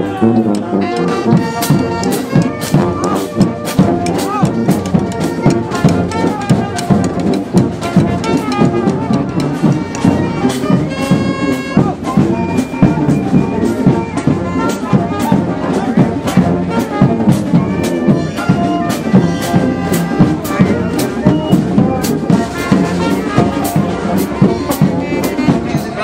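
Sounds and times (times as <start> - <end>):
brass instruments playing tune: 0.0 - 26.0
steady drum beat: 0.0 - 26.0.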